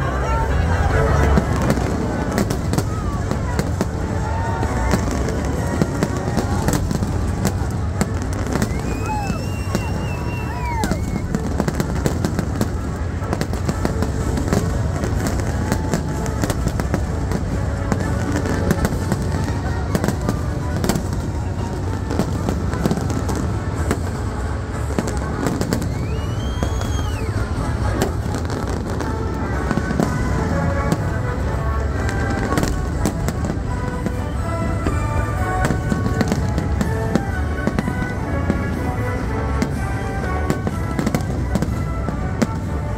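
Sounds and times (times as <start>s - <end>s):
fireworks bangs and crackles: 0.0s - 42.9s
music playing: 0.0s - 42.9s.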